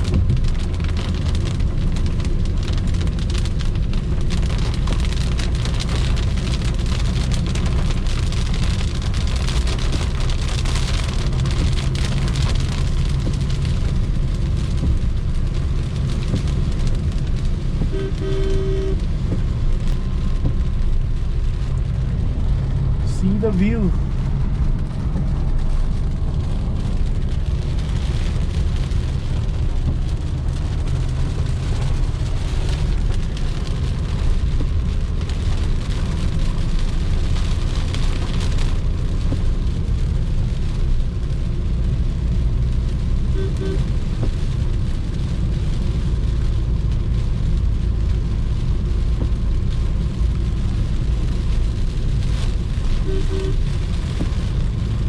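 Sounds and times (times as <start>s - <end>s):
car road and engine rumble: 0.0s - 55.0s
rain hissing: 0.0s - 55.0s.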